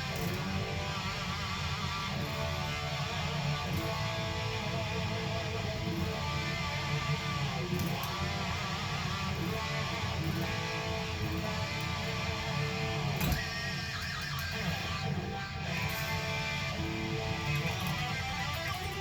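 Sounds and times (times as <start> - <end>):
guitar playing: 0.0 - 19.0.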